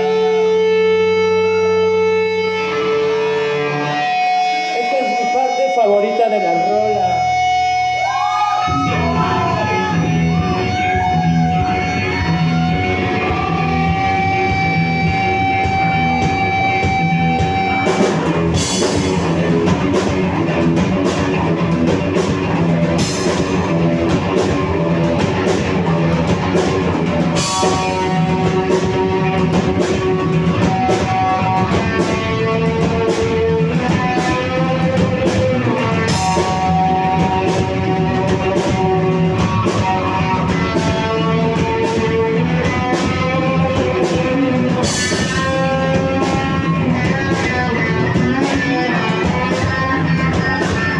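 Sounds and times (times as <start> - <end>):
bass guitar: 0.0 - 50.9
electric guitar sustained notes: 0.0 - 50.9
drum kit: 7.1 - 50.9.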